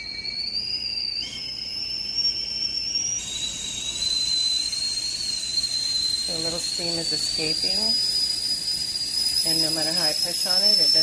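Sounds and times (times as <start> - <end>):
kettle whistling: 0.0 - 11.0
steam escaping: 0.0 - 11.0.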